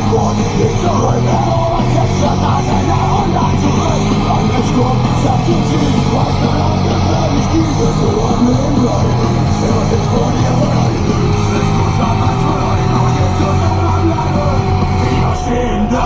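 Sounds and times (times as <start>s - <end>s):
rock music with guitar: 0.0s - 16.0s
tractor engine drone: 0.0s - 16.0s.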